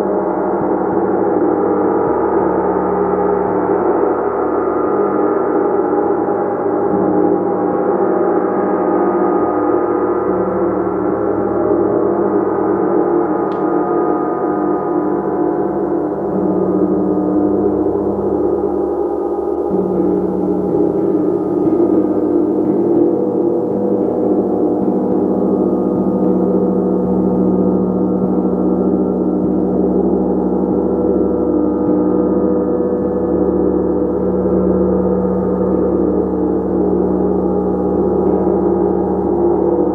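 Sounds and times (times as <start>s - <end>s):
gong drone: 0.0s - 39.9s.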